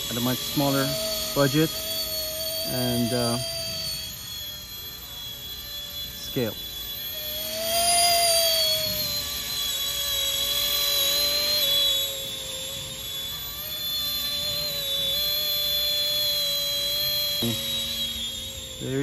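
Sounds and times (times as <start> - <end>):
electric model helicopter whine: 0.0 - 19.0.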